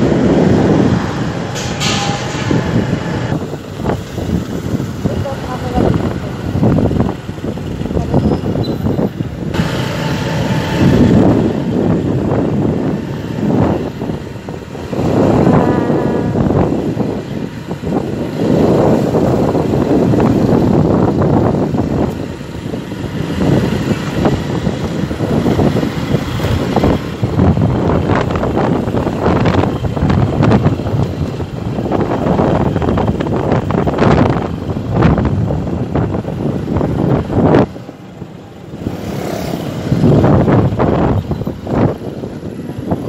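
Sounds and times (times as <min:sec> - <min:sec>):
motorcycle and road rumble: 0:00.0 - 0:43.0
wind buffeting microphone: 0:00.0 - 0:43.0.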